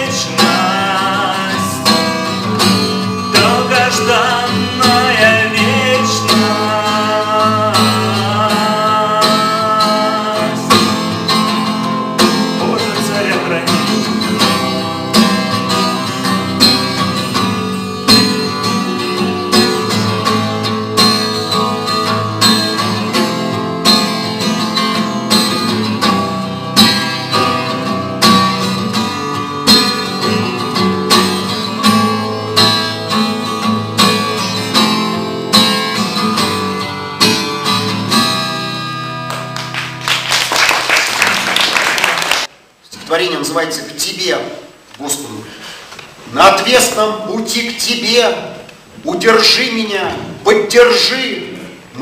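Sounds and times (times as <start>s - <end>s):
acoustic guitar strumming: 0.0s - 43.6s.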